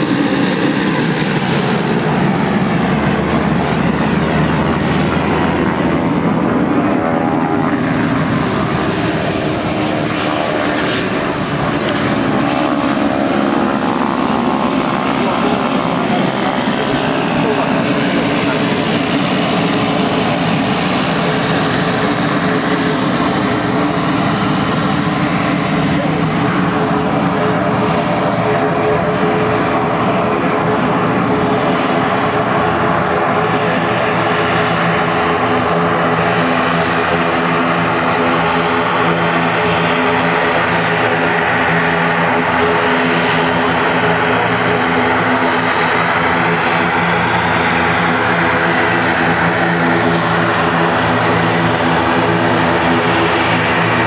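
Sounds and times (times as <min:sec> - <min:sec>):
deep steady engine hum: 0:00.0 - 0:54.0
turboprop aircraft taxiing: 0:00.0 - 0:54.0.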